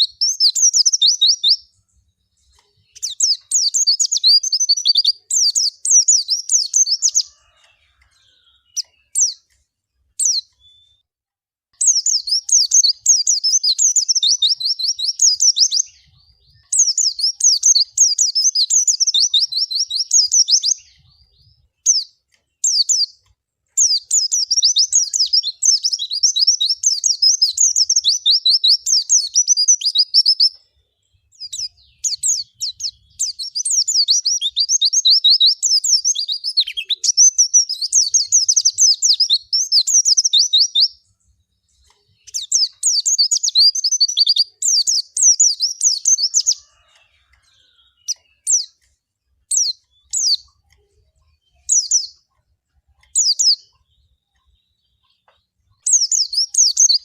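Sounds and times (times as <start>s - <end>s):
bird chirps: 0.0s - 11.1s, 11.8s - 57.0s
bird twittering song: 0.0s - 11.1s, 11.8s - 57.0s.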